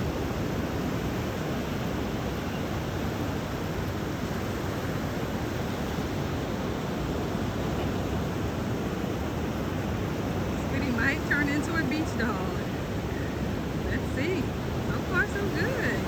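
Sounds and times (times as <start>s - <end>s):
surf on beach: 0.0s - 16.0s.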